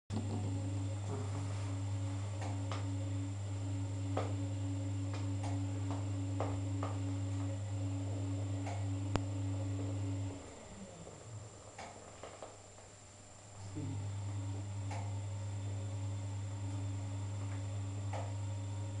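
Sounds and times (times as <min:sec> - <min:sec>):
washing machine humming: 0:00.1 - 0:19.0.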